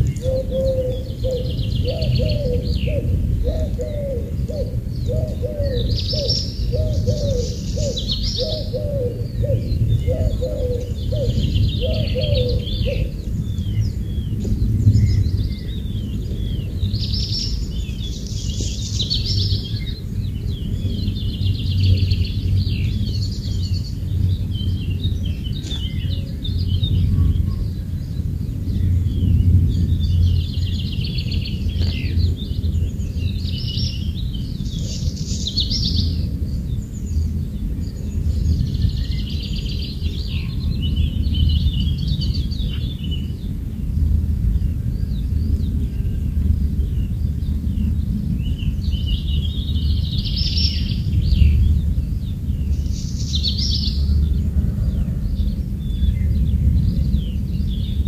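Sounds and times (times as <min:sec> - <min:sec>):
birds chirping and trilling: 0:00.0 - 0:58.0
steady low rumble: 0:00.0 - 0:58.0.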